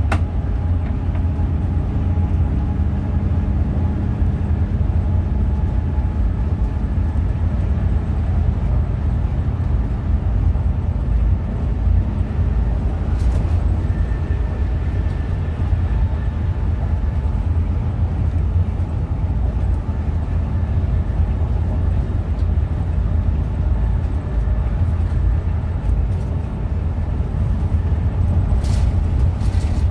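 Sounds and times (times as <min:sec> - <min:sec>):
bus engine rumbling: 0:00.0 - 0:29.9
road noise: 0:00.0 - 0:29.9.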